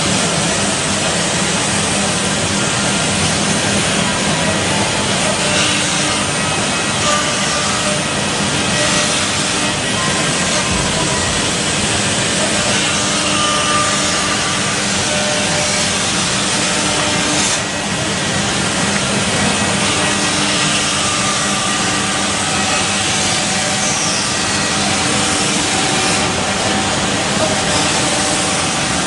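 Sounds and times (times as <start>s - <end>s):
wood router cutting wood: 0.0s - 29.0s.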